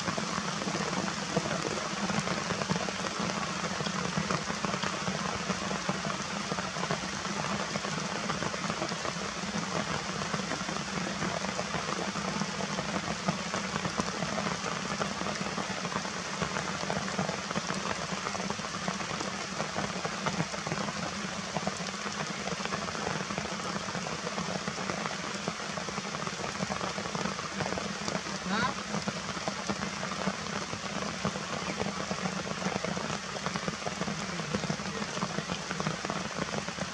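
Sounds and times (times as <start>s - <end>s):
rain pattering: 0.0s - 36.9s.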